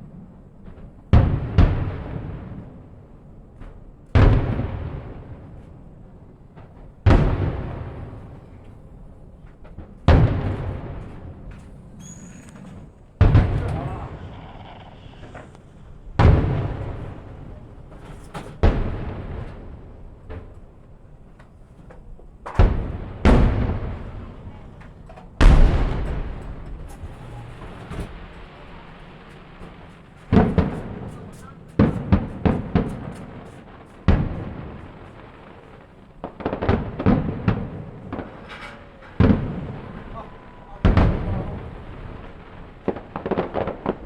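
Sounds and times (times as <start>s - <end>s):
faint fireworks pops: 0.0s - 44.0s
fireworks booming: 0.0s - 44.0s.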